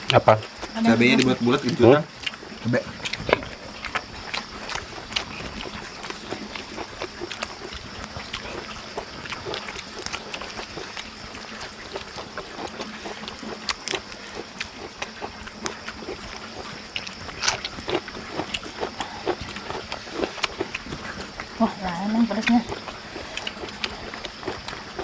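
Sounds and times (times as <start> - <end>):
people chewing and lip-smacking: 0.0 - 25.0.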